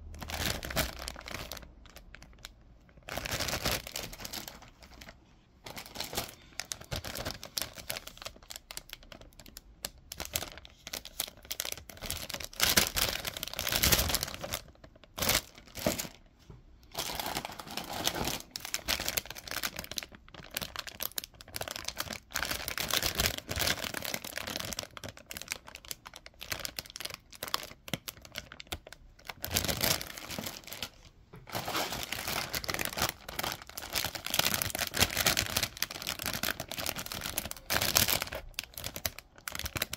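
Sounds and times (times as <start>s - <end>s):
plastic bags crinkling: 0.0s - 39.9s.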